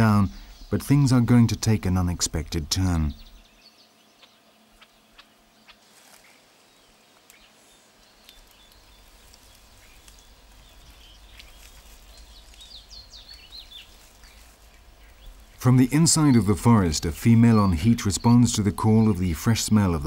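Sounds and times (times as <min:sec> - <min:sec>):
bird chirps: 0:00.0 - 0:20.0.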